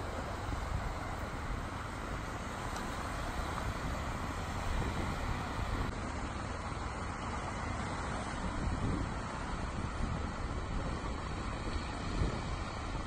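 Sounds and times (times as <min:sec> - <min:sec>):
waves breaking on beach: 0:00.0 - 0:13.0
wind rumble on microphone: 0:00.0 - 0:13.0.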